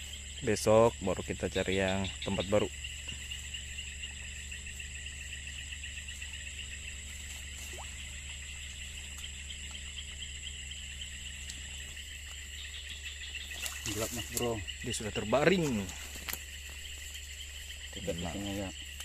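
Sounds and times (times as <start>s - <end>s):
insects and frogs trilling: 0.0s - 19.0s.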